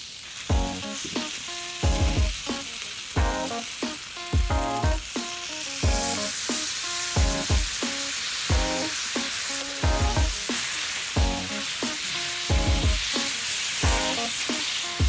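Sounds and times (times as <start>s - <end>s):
food sizzling on a griddle: 0.0s - 15.0s
background music with a beat: 0.5s - 15.0s.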